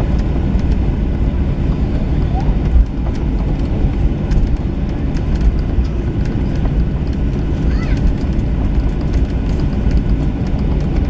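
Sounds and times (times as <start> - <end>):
aircraft cabin rumble: 0.0 - 11.0
light clicks and rattles: 0.1 - 11.0.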